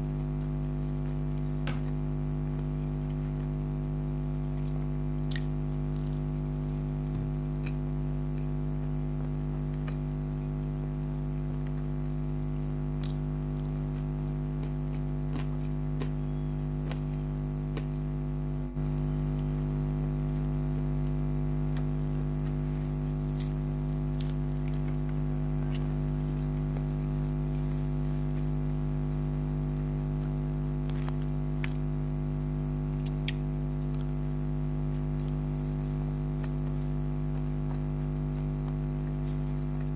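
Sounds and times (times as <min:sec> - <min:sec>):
person chewing: 0:00.0 - 0:39.9
steady low hum: 0:00.0 - 0:39.9.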